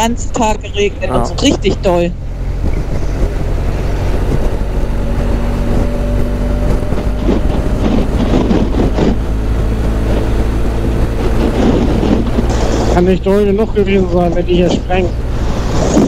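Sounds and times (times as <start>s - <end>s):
motorcycle engine cruising: 0.0s - 16.0s
road noise: 0.0s - 16.0s
wind noise: 0.0s - 16.0s.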